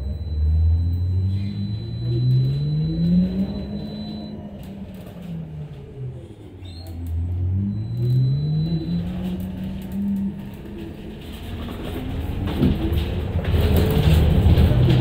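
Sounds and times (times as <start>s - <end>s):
road rumble: 0.0s - 15.0s.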